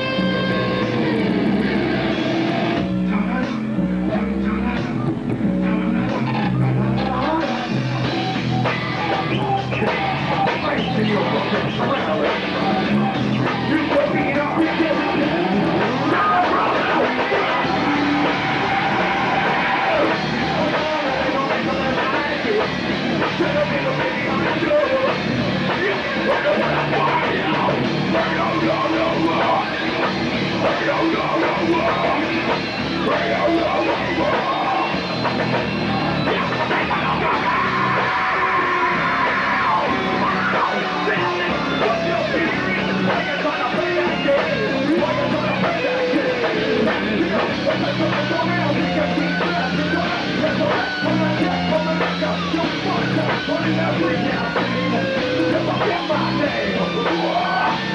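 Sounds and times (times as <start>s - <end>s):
bass guitar: 0.0s - 57.9s
distorted electric guitars: 0.0s - 57.9s
drums: 0.0s - 57.9s
person singing and yelling: 7.0s - 57.9s.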